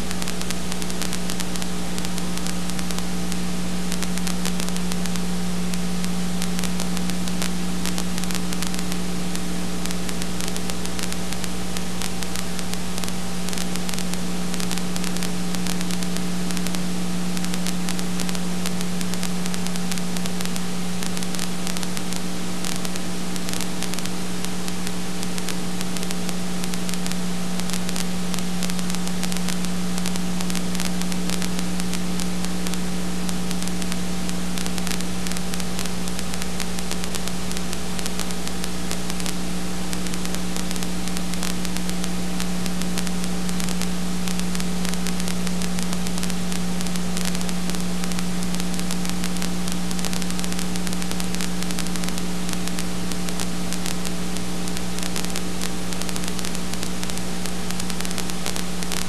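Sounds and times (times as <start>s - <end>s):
constant low hum: 0.0s - 59.0s
hiss and crackle: 0.0s - 59.0s.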